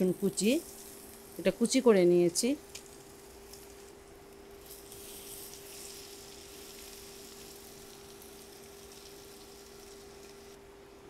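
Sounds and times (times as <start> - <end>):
garlic sizzling in a frying pan: 0.0 - 10.6.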